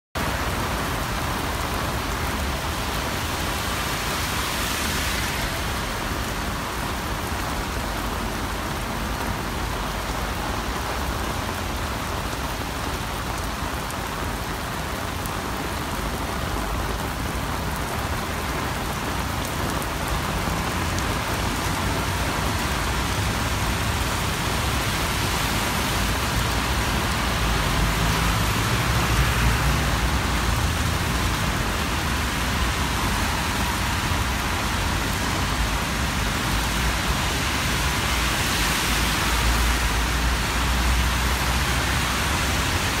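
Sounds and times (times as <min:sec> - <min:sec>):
heavy rain on pavement: 0:00.2 - 0:43.0.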